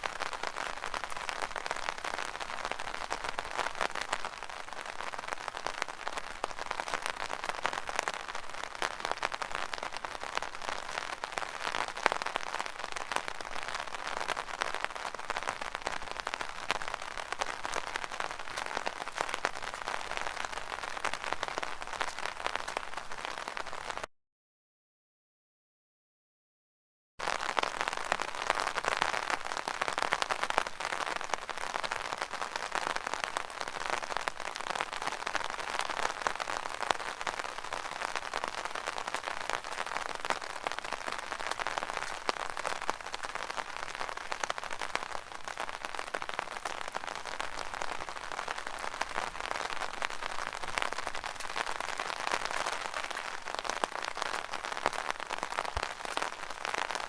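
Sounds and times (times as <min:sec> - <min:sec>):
rain drumming on an umbrella: 0:00.0 - 0:24.1, 0:27.2 - 0:57.0.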